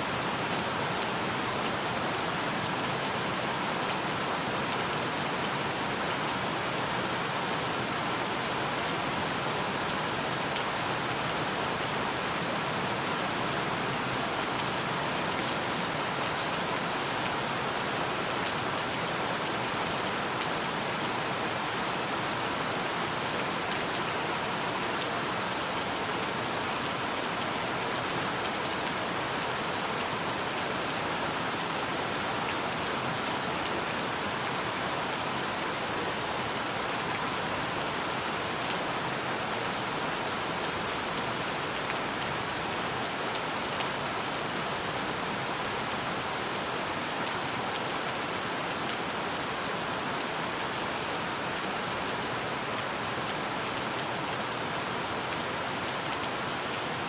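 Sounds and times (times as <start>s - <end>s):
rain falling: 0.1s - 57.0s.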